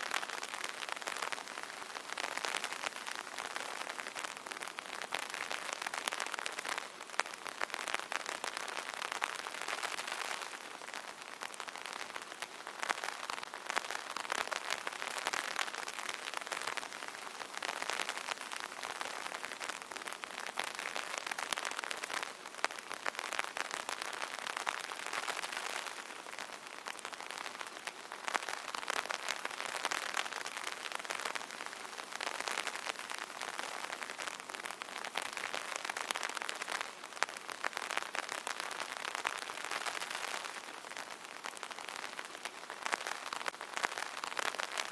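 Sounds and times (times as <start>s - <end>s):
rain pattering on umbrella: 0.0s - 44.9s.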